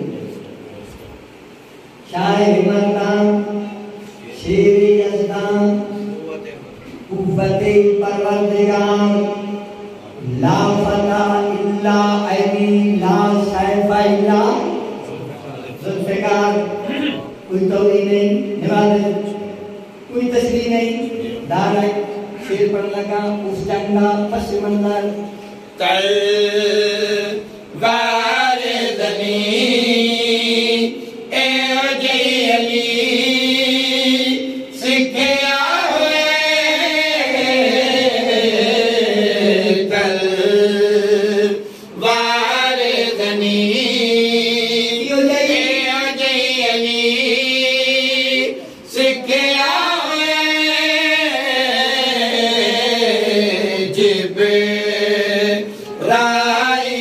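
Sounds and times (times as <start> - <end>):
men chanting into a microphone: 1.3 - 57.0.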